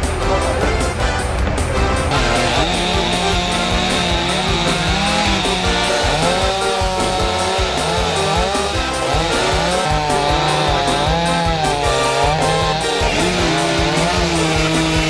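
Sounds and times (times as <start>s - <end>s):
chainsaw cutting wood: 0.0s - 15.0s
music with steady beat: 0.0s - 15.0s.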